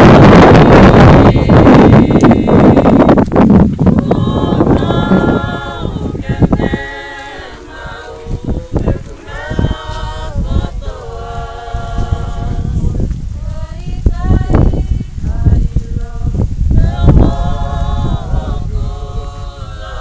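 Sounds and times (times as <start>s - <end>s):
group singing unaccompanied: 0.0s - 20.0s
wind buffeting microphone: 0.0s - 20.0s.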